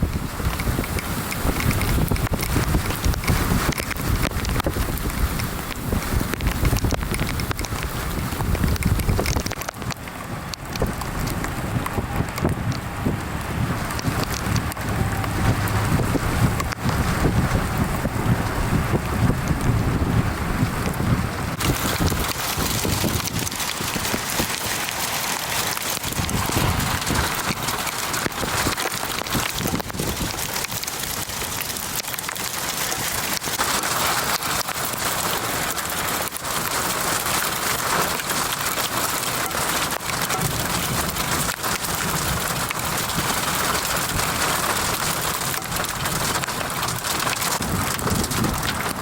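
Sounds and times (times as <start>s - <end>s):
gusting wind: 0.0s - 49.0s
heavy rain pelting: 0.0s - 49.0s.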